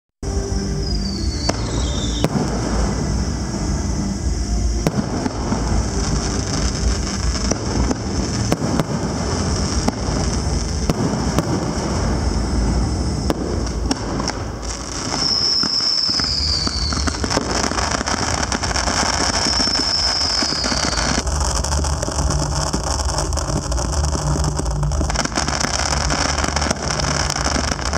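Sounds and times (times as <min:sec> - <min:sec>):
falling firework whistle: 0:00.2 - 0:27.9
fireworks crackling: 0:00.2 - 0:27.9
fireworks bursts and bangs: 0:00.8 - 0:04.0, 0:04.8 - 0:27.9.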